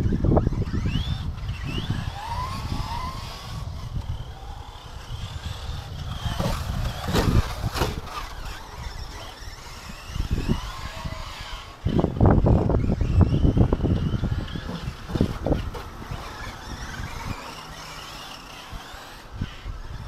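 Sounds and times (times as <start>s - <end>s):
electric motors whining: 0.0s - 20.0s
wind on microphone: 0.0s - 20.0s.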